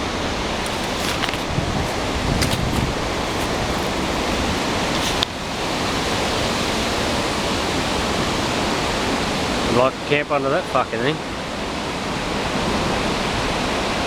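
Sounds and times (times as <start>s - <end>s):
strong wind through trees: 0.0s - 14.0s.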